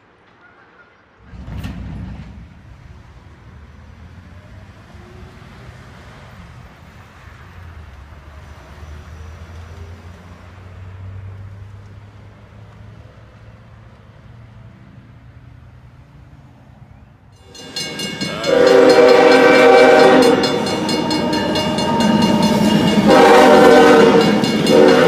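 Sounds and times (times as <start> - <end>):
diesel locomotive engine drone: 0.0 - 25.0.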